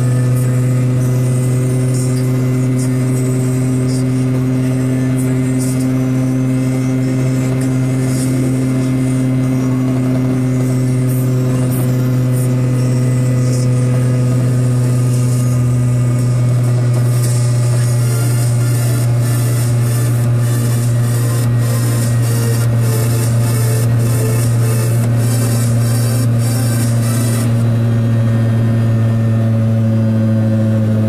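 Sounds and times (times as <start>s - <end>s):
small two-stroke engine droning: 0.0s - 31.0s.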